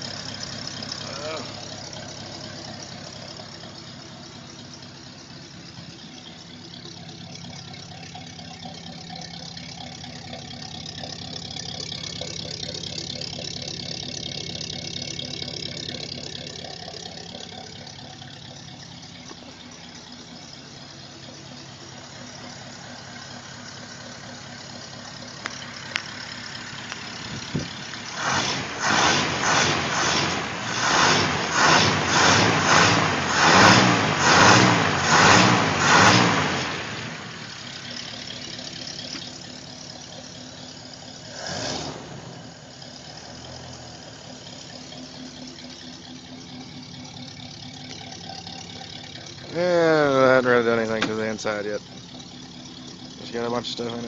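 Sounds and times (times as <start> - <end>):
pickup engine idling: 0.0 - 54.0.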